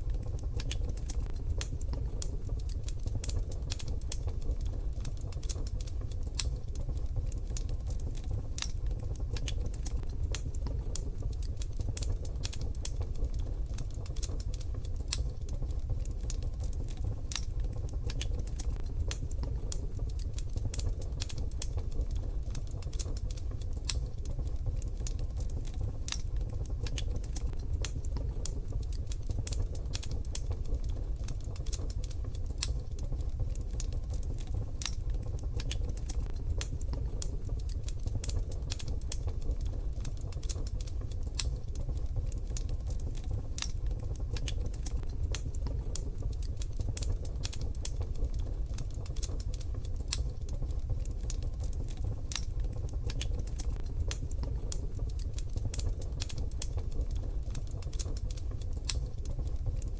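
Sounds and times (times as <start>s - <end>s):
low stove rumble: 0.0s - 59.9s
wood fire crackling: 0.0s - 59.9s.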